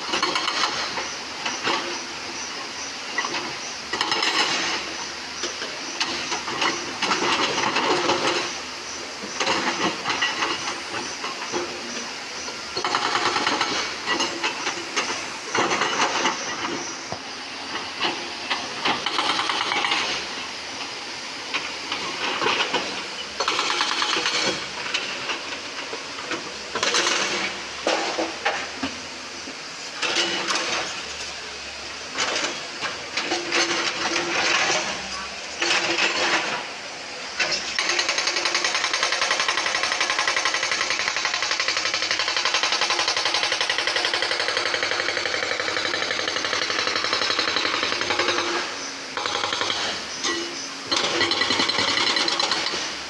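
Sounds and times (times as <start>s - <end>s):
hissing grinding bursts: 0.0s - 28.8s, 32.2s - 53.0s
excavator engine running: 0.0s - 53.0s.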